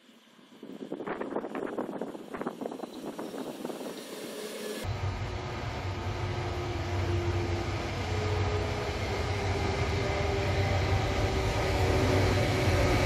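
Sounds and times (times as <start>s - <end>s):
electric train rumbling and whining: 0.0s - 13.0s.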